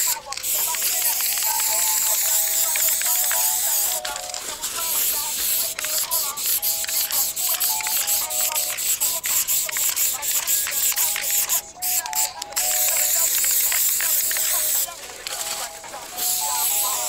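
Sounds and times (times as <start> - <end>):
spray-paint can hissing: 0.0 - 17.0.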